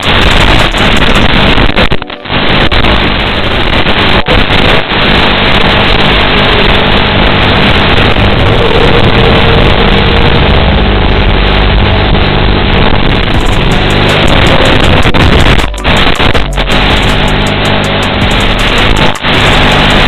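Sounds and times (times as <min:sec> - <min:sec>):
radio hiss: 0:00.0 - 0:20.0.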